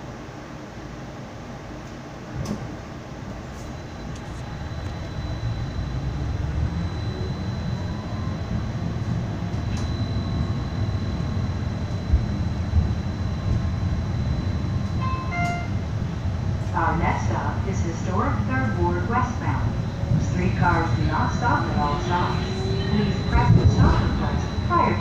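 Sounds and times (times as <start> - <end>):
streetcar rumbling: 0.0 - 25.0
high drive whine: 2.3 - 25.0.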